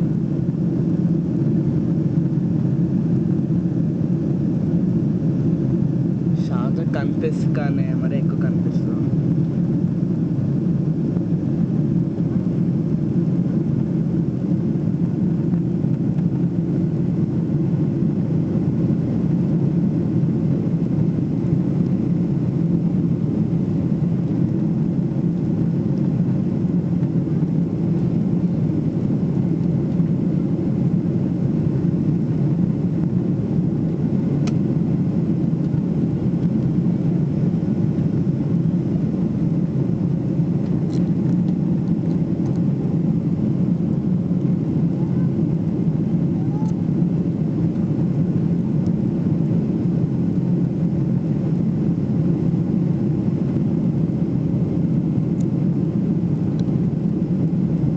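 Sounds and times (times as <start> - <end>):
airplane cabin drone: 0.0 - 57.9.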